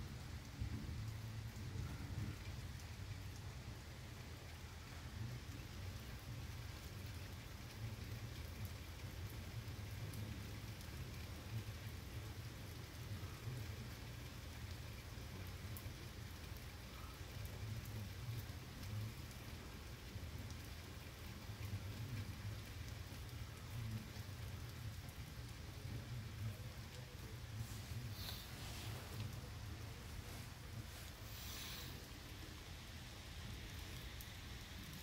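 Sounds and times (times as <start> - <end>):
heavy rain on trees and vehicles: 0.0 - 35.0.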